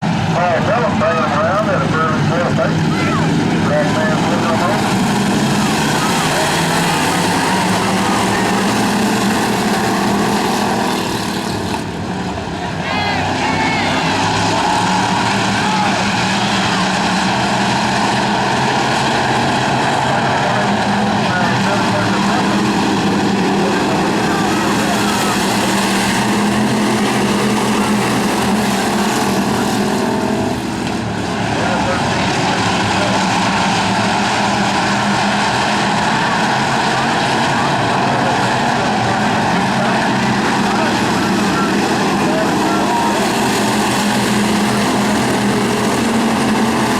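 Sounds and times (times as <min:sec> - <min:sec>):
race car engines droning: 0:00.0 - 0:46.9.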